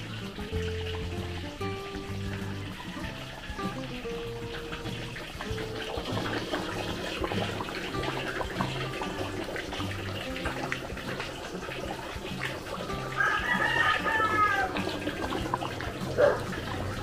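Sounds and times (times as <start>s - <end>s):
thick sauce bubbling in a wok: 0.0s - 17.0s.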